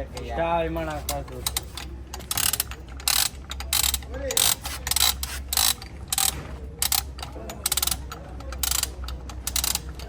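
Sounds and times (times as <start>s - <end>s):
ratcheting hand tool clicking: 1.1s - 10.0s.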